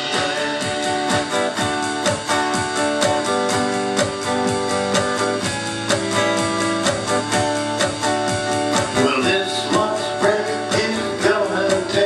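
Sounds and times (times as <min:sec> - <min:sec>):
electronic drum beat: 0:00.0 - 0:12.0
strummed guitar chords: 0:00.0 - 0:12.0.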